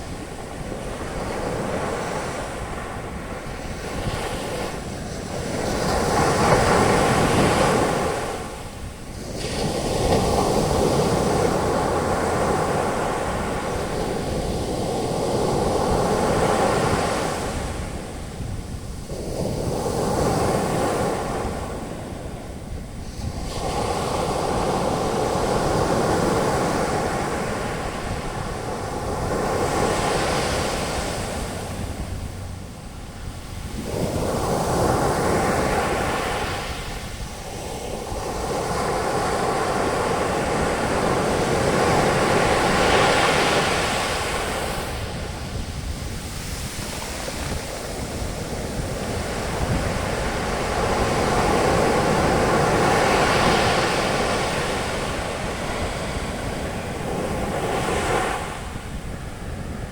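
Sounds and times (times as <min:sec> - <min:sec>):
ocean waves breaking on beach: 0:00.0 - 0:59.9
wind on microphone: 0:00.0 - 0:59.9.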